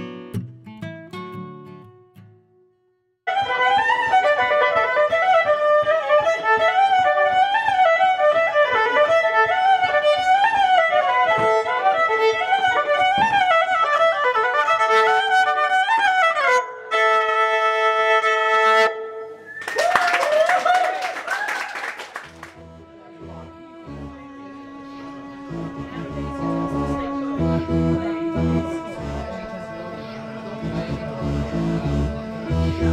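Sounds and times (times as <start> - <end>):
electric violin melody: 3.3 - 19.5, 22.3 - 32.9.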